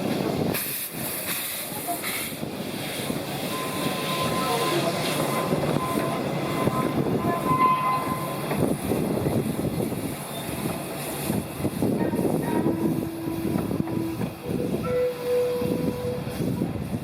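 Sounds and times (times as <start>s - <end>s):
train wheels rattling on rails: 0.0s - 17.0s.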